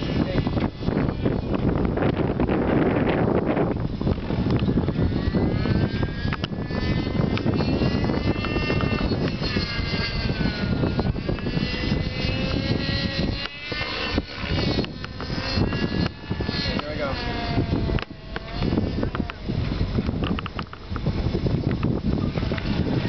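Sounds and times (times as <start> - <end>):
rc helicopter engine whining: 0.0 - 23.0.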